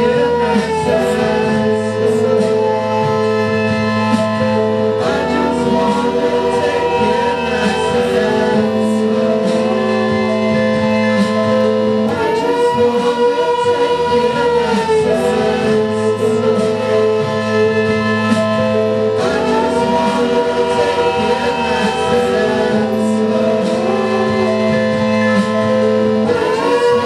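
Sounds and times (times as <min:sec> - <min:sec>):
melodic lines: 0:00.0 - 0:27.0
sustained keyboard chords: 0:00.0 - 0:27.0.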